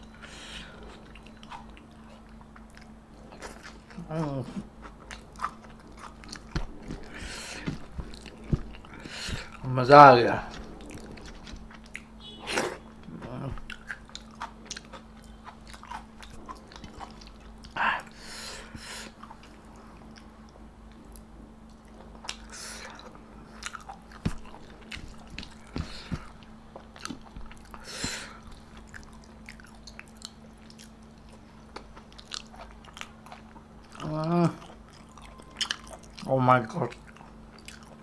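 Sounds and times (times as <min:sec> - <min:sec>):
low hum: 0:00.0 - 0:35.6
chewing and biting: 0:00.7 - 0:09.7, 0:10.3 - 0:12.2, 0:13.0 - 0:18.2, 0:20.9 - 0:38.0
food crunching: 0:00.8 - 0:12.2, 0:13.0 - 0:17.8, 0:20.9 - 0:38.0.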